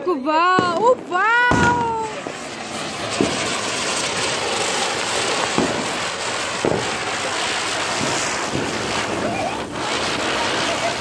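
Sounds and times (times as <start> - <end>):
firework spinner hissing sparks: 0.0 - 11.0
short firework pops: 0.6 - 2.0, 2.8 - 4.3, 5.0 - 11.0.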